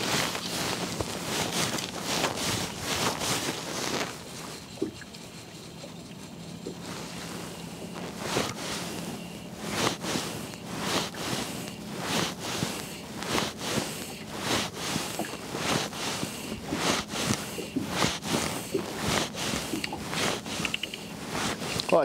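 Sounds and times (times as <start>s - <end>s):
waves slapping against boat hull: 0.0s - 5.2s, 6.6s - 22.0s
wind: 0.0s - 22.0s.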